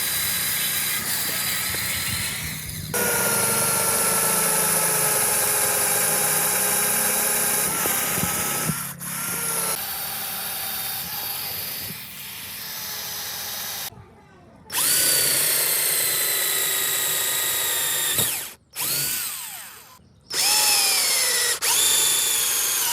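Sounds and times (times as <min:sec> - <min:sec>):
cordless drill motor whine: 0:00.0 - 0:13.9, 0:14.7 - 0:22.9.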